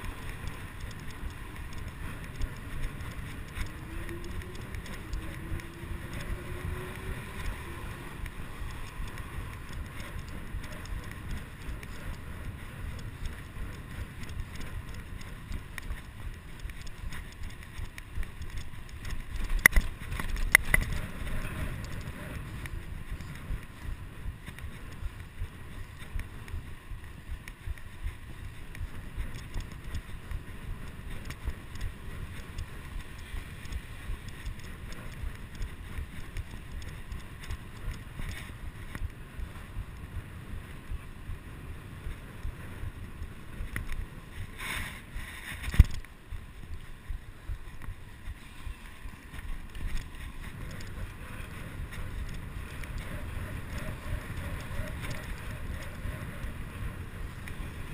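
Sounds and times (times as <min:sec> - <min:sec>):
tyres rumbling on road: 0:00.0 - 0:57.9
wind buffeting microphone: 0:00.0 - 0:57.9.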